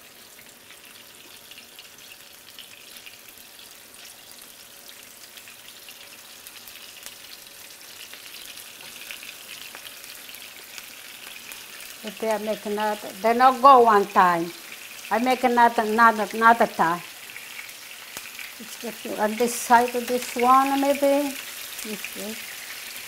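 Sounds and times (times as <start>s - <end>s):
fish frying in oil: 0.0s - 23.0s.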